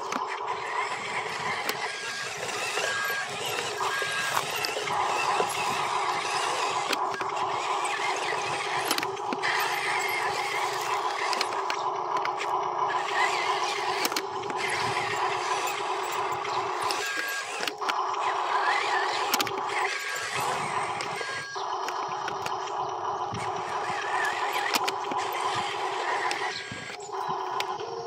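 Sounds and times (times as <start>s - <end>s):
sharp clicks: 0.0s - 28.0s
toy truck motor whining: 0.0s - 28.0s.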